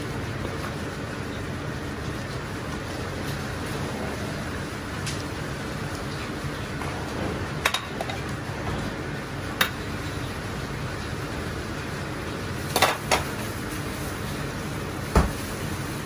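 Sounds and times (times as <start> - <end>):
pot boiling and bubbling: 0.0 - 16.0.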